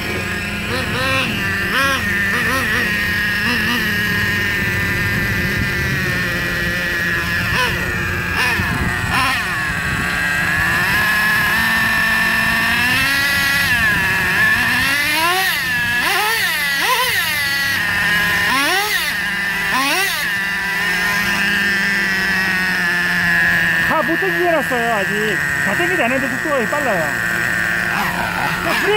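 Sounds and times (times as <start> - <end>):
model engine idling and revving: 0.0 - 28.9.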